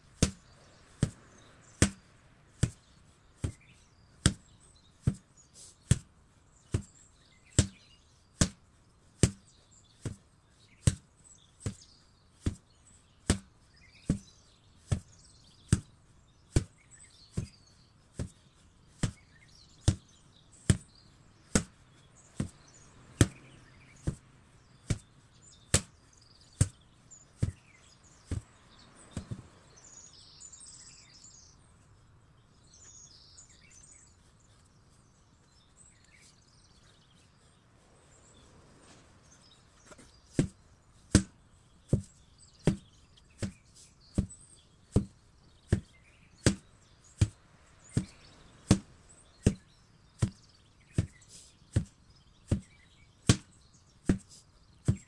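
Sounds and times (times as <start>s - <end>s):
faint bird chirps: 0.0s - 55.0s.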